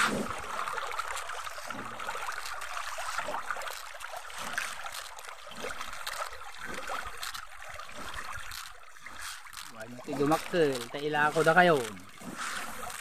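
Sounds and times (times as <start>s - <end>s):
fish splashing in pond: 0.0s - 13.0s.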